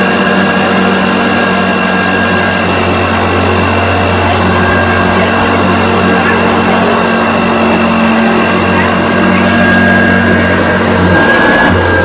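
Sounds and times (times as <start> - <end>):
vacuum cleaner running on carpet: 0.0 - 12.0.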